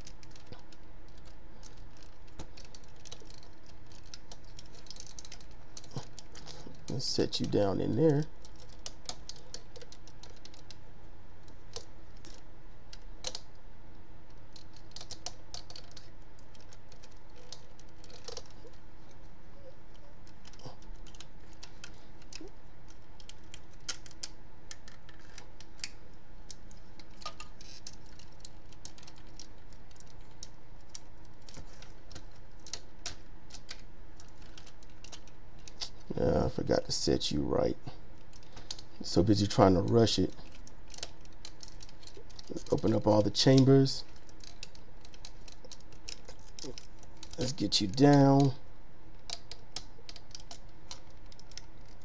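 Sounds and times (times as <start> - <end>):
plastic toy parts clicking: 0.0 - 13.6, 14.2 - 37.2, 38.0 - 52.0
faint steady hum: 0.0 - 52.0.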